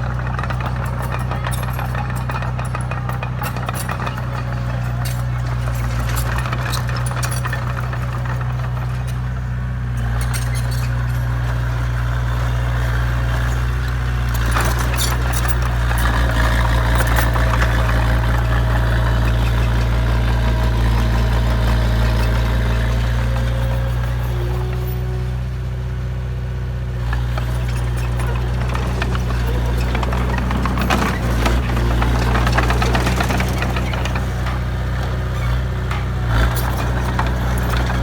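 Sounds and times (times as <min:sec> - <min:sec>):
heavy diesel engine humming: 0:00.0 - 0:38.0.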